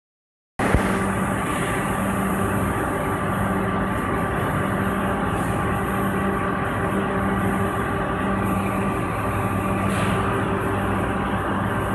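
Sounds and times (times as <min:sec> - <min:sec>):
injection molding machine drone: 0:00.6 - 0:11.9.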